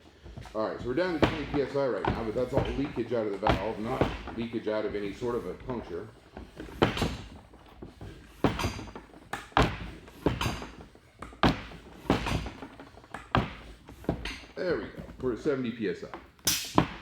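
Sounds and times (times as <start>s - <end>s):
hand tyre pump strokes: 0.0s - 15.2s.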